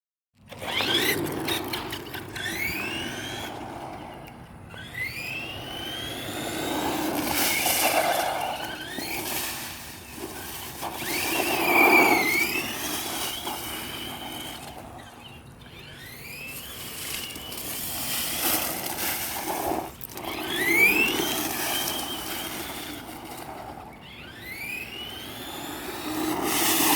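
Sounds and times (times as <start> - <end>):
electric motor whining: 0.4 - 26.9.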